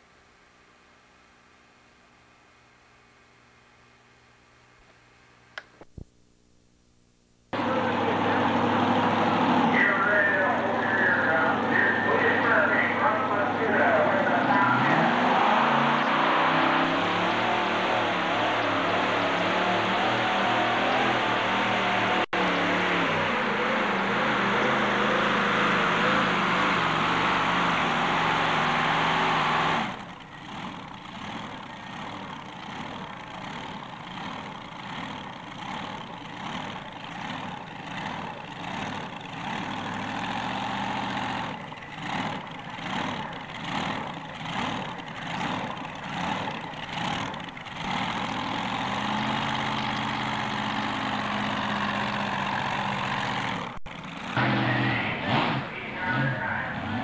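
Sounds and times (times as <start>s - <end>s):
tractor engine revving and idling: 7.5s - 57.0s.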